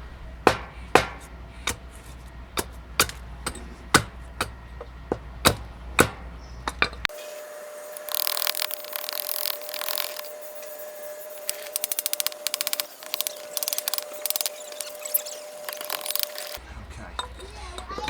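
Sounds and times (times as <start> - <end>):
carving tool scraping wood: 0.4 - 6.3, 7.8 - 16.6.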